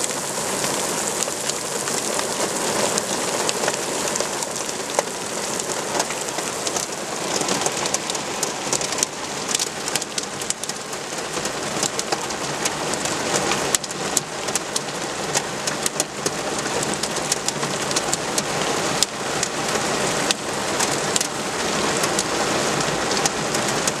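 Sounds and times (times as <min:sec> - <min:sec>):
hail ticking on hard surfaces: 0:00.0 - 0:24.0
heavy rain hissing: 0:00.0 - 0:24.0.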